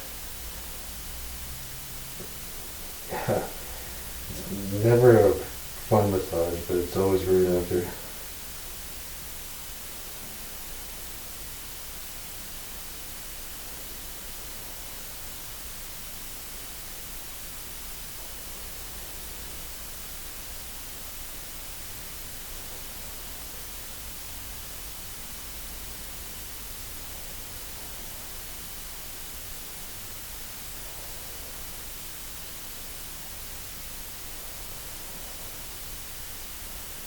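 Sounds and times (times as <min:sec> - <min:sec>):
room tone hiss: 0:00.0 - 0:37.0.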